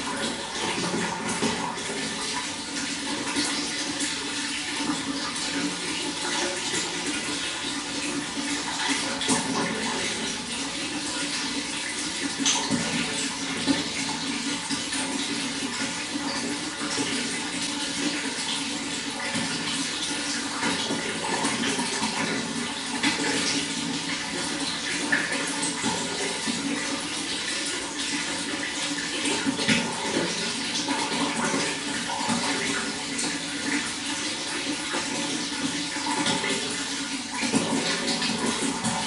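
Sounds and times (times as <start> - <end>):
running water splashing: 0.0 - 39.0.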